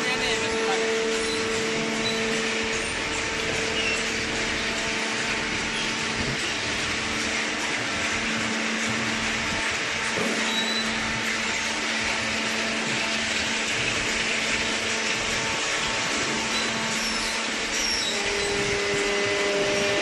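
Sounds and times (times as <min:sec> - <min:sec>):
baling machinery whirring: 0:00.0 - 0:20.0.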